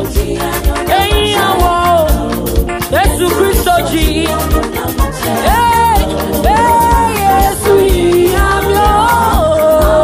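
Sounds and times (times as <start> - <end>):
drum beat and bass: 0.0 - 10.0
voices singing together: 0.0 - 10.0.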